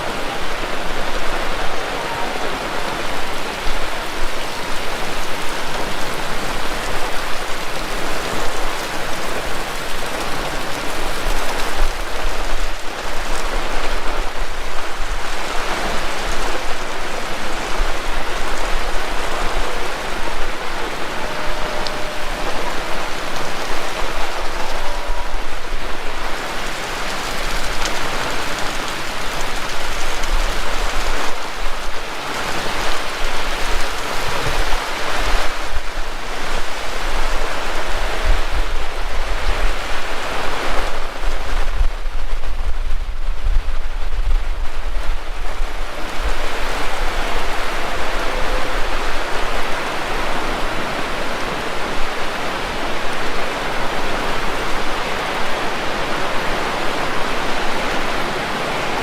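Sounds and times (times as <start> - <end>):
heavy rain falling: 0.0 - 59.0
wind rumble on microphone: 0.0 - 59.0.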